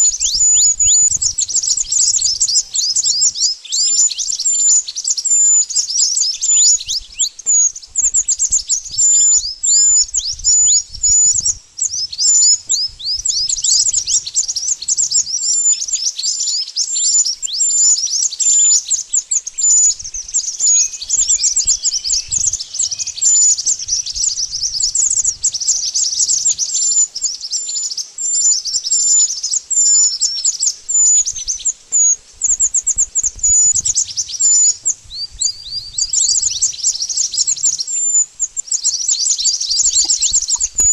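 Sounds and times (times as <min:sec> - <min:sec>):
bird rapid high chirps: 0:00.0 - 0:40.9.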